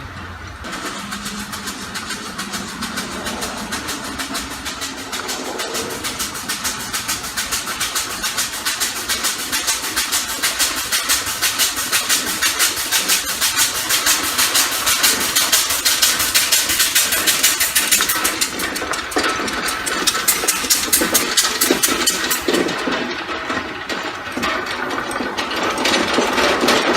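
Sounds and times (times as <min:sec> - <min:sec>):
air engine exhaust puffing: 0:00.6 - 0:23.0.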